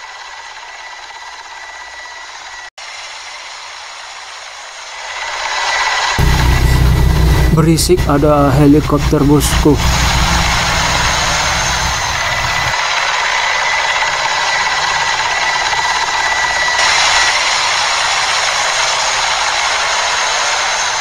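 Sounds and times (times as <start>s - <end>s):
helicopter rotor and turbine: 0.0s - 21.0s.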